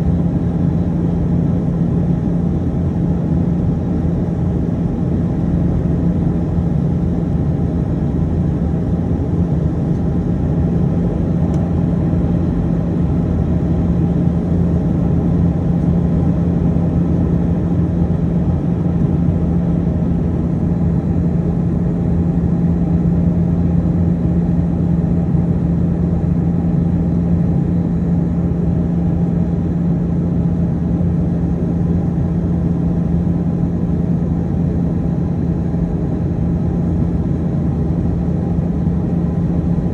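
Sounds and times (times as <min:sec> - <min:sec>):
constant low hum: 0:00.0 - 0:39.9
jet engines droning: 0:00.0 - 0:39.9.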